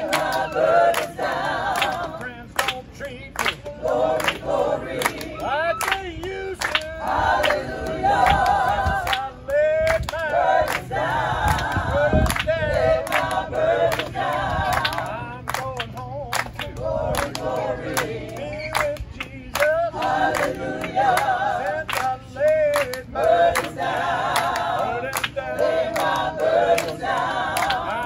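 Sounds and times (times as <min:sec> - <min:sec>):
gospel choir singing: 0:00.0 - 0:28.0
hand claps: 0:00.1 - 0:02.8, 0:03.4 - 0:10.9, 0:11.5 - 0:28.0.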